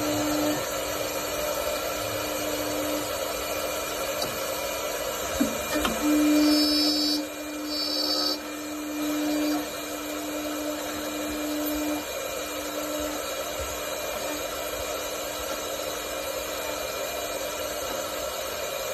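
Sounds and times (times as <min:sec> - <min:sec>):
wood lathe motor humming: 0:00.0 - 0:18.1.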